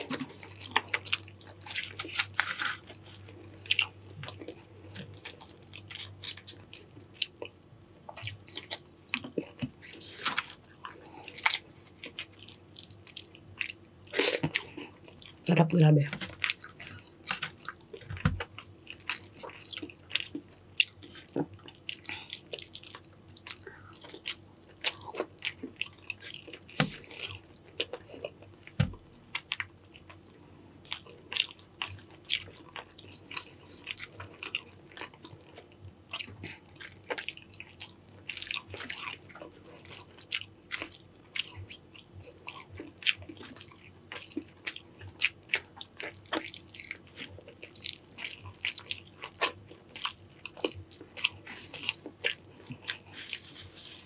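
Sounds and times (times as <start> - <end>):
crunchy chewing: 0.0 - 15.4, 16.2 - 54.0.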